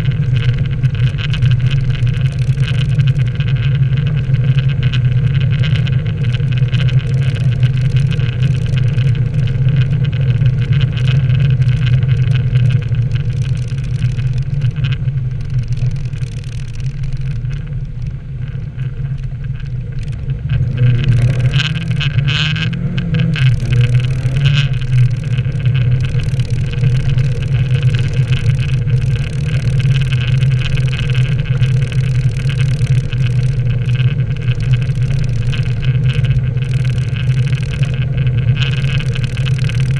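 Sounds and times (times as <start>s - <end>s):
car engine droning: 0.0s - 39.9s
constant hiss: 0.0s - 39.9s.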